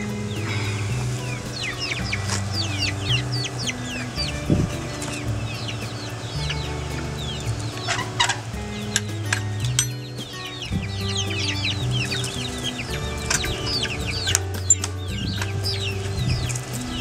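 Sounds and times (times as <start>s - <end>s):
background music with low chords: 0.0s - 17.0s
young chickens clucking and peeping: 0.0s - 17.0s.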